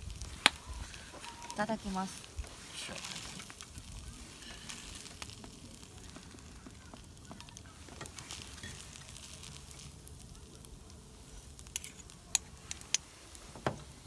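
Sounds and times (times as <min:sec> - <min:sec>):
rice sizzling in a pan: 0:00.0 - 0:14.0.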